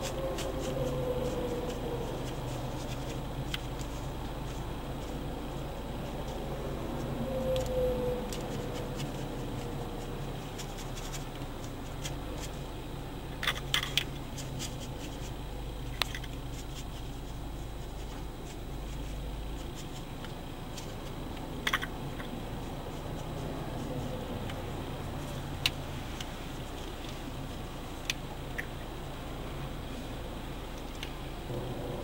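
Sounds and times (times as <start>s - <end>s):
low hum inside car: 0.0s - 32.0s.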